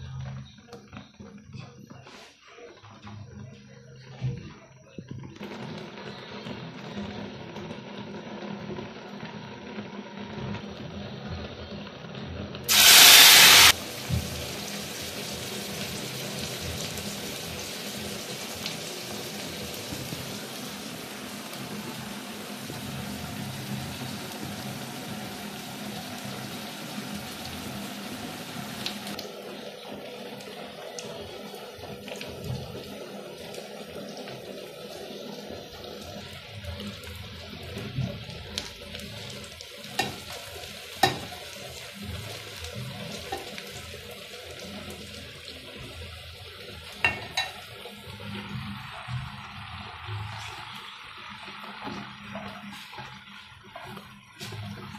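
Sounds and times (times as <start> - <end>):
pot boiling and bubbling: 0.0 - 54.9
steady sizzle: 0.0 - 54.9.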